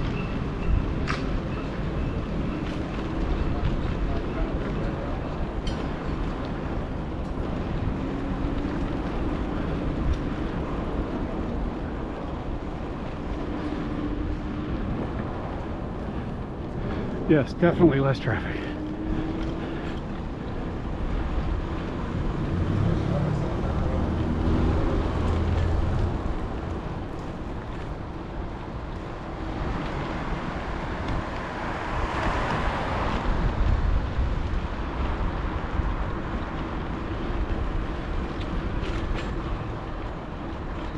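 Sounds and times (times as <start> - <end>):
city traffic: 0.0 - 40.9
wind rushing over microphone: 0.0 - 40.9
vehicle passing: 7.4 - 40.9.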